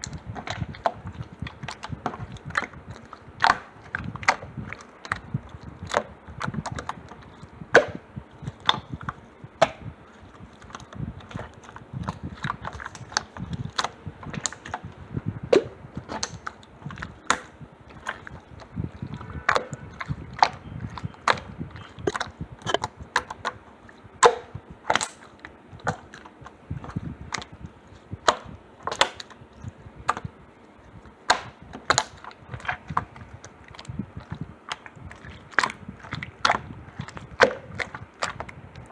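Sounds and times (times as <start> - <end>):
slime squishing: 0.0 - 38.9.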